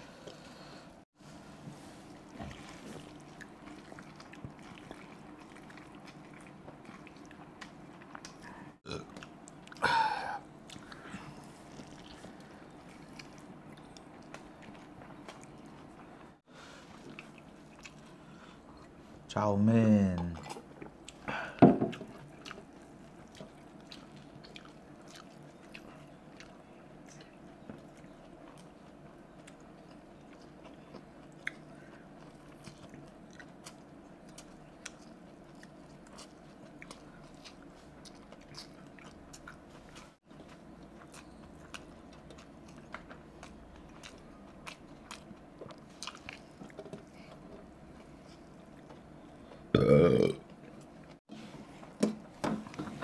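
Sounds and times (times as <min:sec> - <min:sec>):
faint room hum: 0:00.0 - 0:53.0
chewing noodles: 0:02.1 - 0:09.8, 0:10.6 - 0:19.0, 0:21.9 - 0:49.9.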